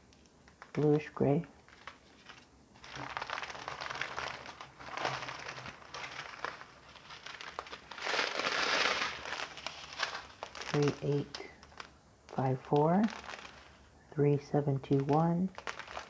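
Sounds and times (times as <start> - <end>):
plastic bags crinkling: 0.0 - 14.0, 14.8 - 16.0.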